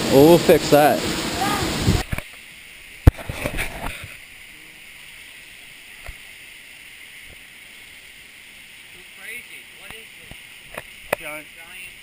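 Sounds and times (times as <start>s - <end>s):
faint steady hiss: 0.0s - 12.0s
water splashing and gurgling: 0.0s - 12.0s.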